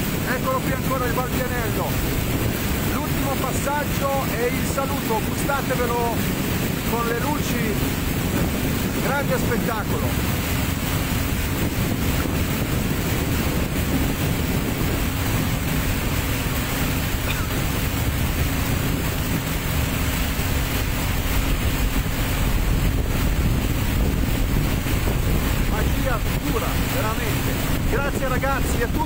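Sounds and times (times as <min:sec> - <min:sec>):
boat engine rumble: 0:00.0 - 0:29.0
water rushing along hull: 0:00.0 - 0:29.0
wind buffeting microphone: 0:00.0 - 0:29.0.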